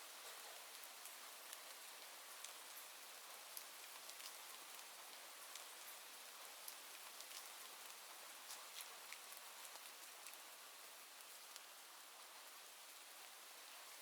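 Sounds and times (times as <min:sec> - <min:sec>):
faint rain hiss: 0:00.0 - 0:14.0
light rain ticks: 0:00.1 - 0:13.8.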